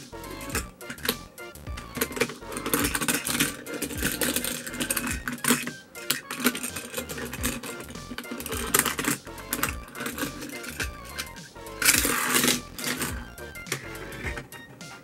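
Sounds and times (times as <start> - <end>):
background music: 0.0 - 15.0
toy car clicking and rattling: 0.0 - 15.0.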